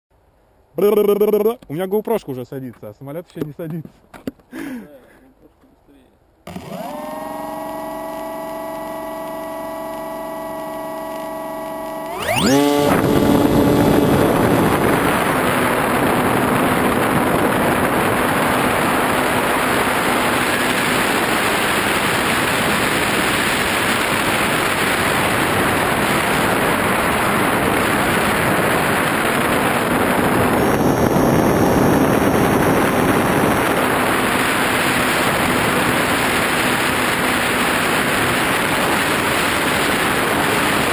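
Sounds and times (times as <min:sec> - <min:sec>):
model airplane motor whine: 0:06.5 - 0:40.9
propeller wash and wind: 0:06.5 - 0:40.9.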